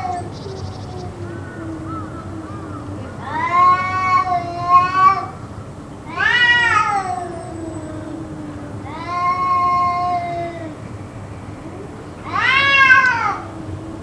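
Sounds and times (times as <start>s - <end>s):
cats yowling: 0.0s - 14.0s.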